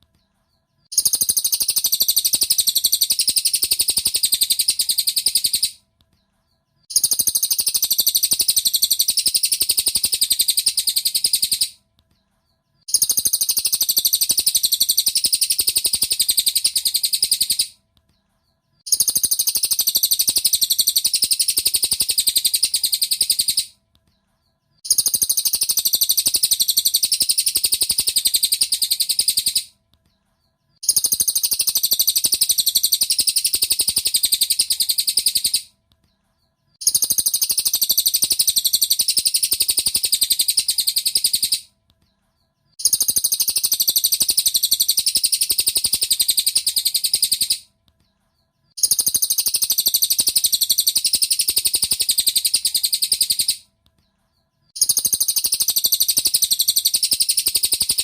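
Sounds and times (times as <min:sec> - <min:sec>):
bird chirping rapidly: 0:00.6 - 0:05.8, 0:06.8 - 0:11.8, 0:12.8 - 0:17.8, 0:18.8 - 0:23.8, 0:24.4 - 0:29.8, 0:30.7 - 0:35.7, 0:36.7 - 0:41.8, 0:42.7 - 0:47.7, 0:48.6 - 0:53.7, 0:54.6 - 0:58.0.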